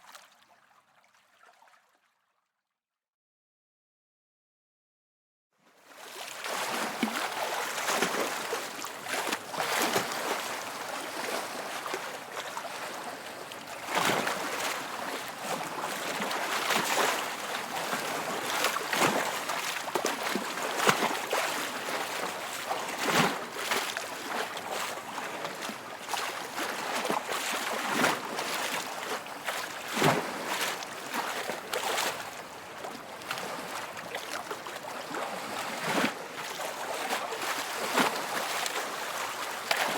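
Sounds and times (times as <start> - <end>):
waves lapping and splashing: 5.9 - 39.9.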